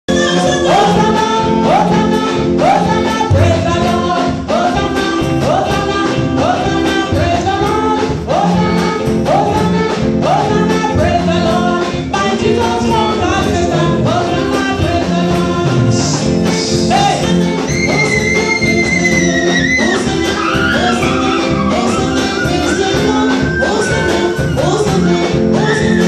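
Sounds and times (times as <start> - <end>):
gospel music with singing: 0.1 - 26.0.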